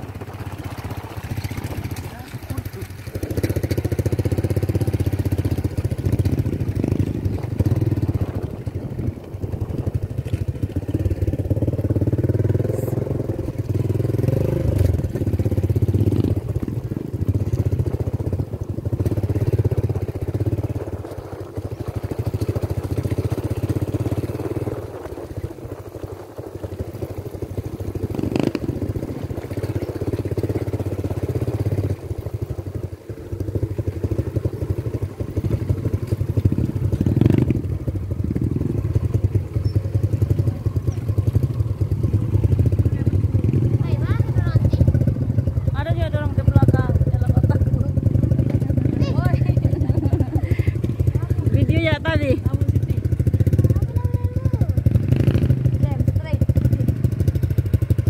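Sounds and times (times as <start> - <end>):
small motorcycle engine running: 0.0 - 58.0.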